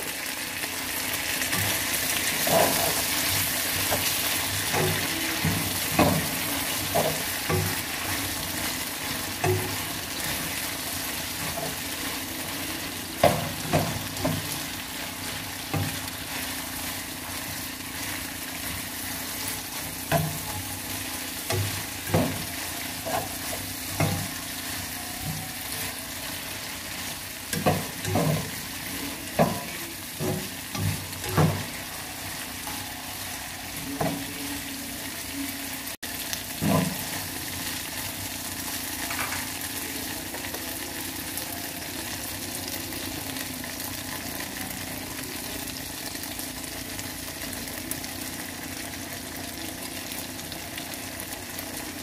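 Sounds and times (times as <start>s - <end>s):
food sizzling in a wok: 0.0s - 52.0s.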